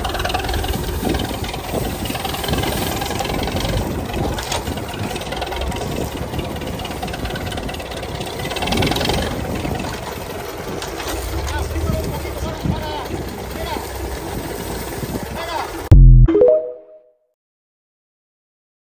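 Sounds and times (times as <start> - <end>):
tractor diesel engine clatter: 0.0 - 15.9.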